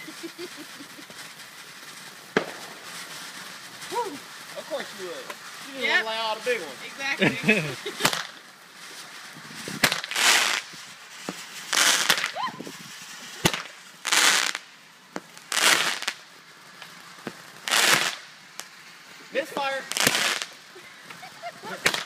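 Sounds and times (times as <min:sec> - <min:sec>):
fireworks hissing bursts: 0:00.0 - 0:22.0
fireworks popping: 0:00.0 - 0:22.0
spark fountains hissing: 0:00.0 - 0:22.0.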